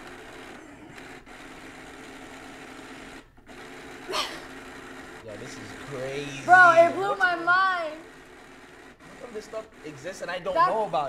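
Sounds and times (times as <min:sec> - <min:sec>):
machine motor whirring: 0:00.0 - 0:11.0.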